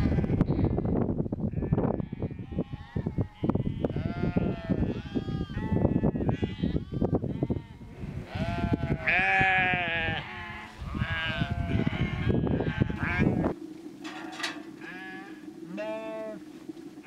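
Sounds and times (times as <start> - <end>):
sheep bleating: 1.6 - 13.5, 14.1 - 16.4.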